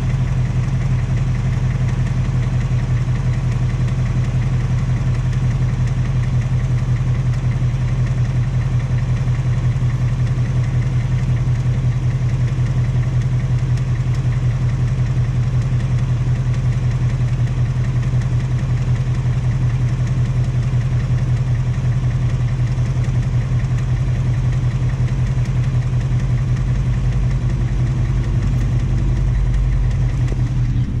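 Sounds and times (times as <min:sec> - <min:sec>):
car engine idling with ticking: 0:00.0 - 0:31.0.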